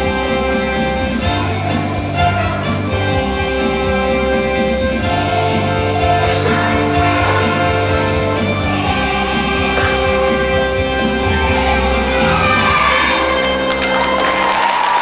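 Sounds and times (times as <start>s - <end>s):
guitar music: 0.0s - 14.2s.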